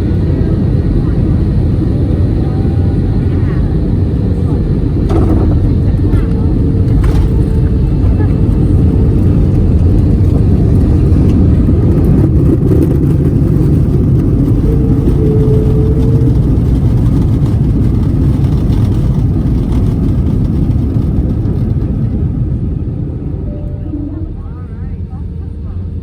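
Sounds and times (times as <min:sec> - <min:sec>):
jet engines roaring in cabin: 0:00.0 - 0:26.0.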